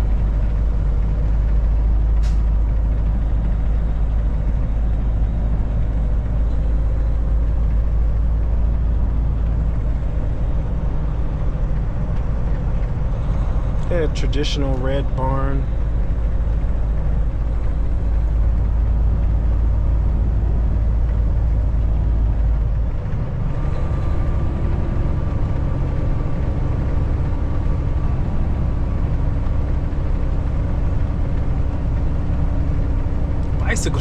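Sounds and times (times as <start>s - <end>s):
truck engine and road noise: 0.0s - 34.0s.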